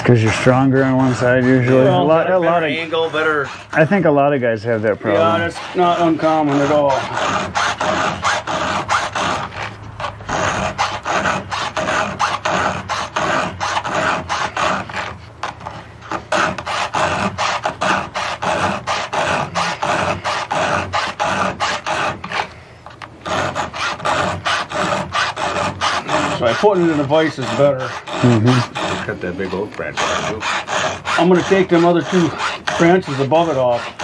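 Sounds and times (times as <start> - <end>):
file rasping on chainsaw chain: 0.0 - 34.0.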